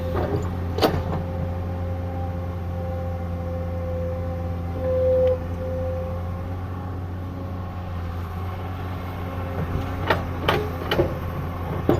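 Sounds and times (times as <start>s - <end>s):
excavator engine running: 0.0s - 11.9s.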